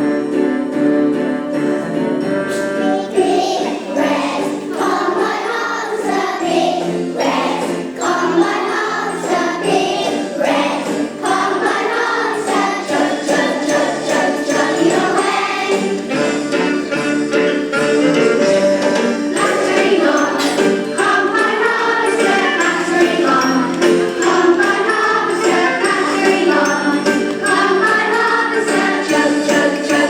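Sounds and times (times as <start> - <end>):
held instrumental chords: 0.0 - 30.0
choir singing: 0.5 - 30.0
jingling percussion beat: 3.2 - 30.0.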